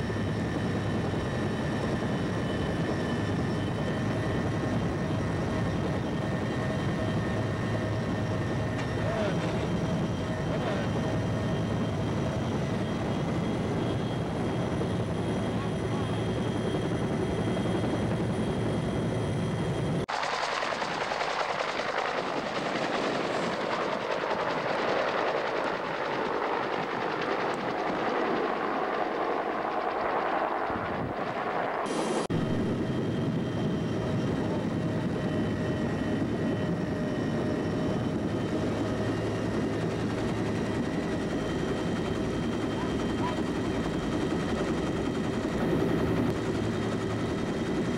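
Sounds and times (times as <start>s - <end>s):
helicopter cabin turbine and rotor noise: 0.0s - 47.9s
rushing rotor and wind noise: 0.0s - 47.9s.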